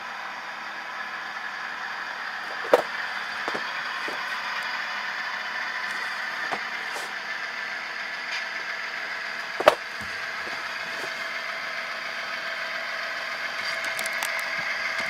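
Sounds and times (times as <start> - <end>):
model train diesel engine sound: 0.0 - 15.0.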